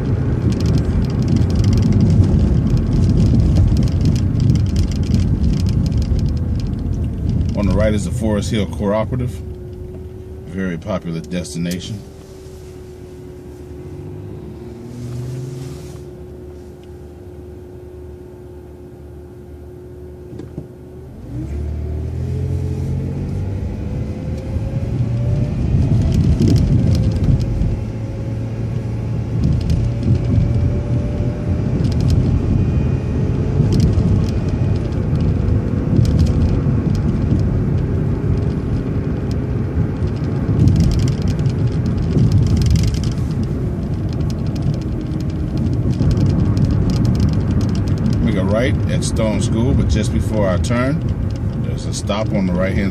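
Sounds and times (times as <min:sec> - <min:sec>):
bus drivetrain whine: 0:00.0 - 0:52.9
bus engine humming: 0:00.0 - 0:52.9
road noise: 0:00.0 - 0:52.9.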